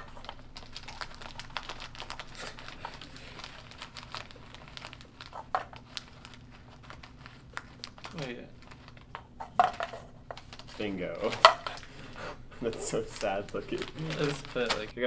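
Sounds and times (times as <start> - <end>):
plastic snack bags crinkling: 0.0 - 15.0.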